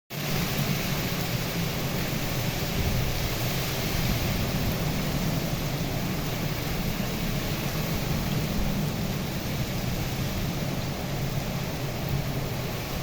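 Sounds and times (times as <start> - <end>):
rain in strong wind: 0.1 - 13.0.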